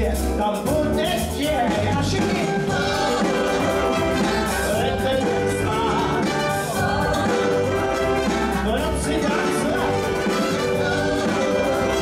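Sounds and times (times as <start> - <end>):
big band playing: 0.0 - 12.0.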